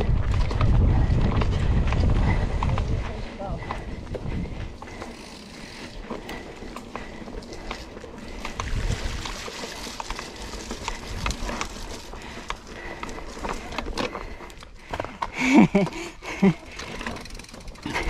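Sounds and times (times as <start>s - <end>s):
bike clicking and rattling: 0.0s - 18.0s
bike tyres on dirt trail: 0.0s - 18.0s.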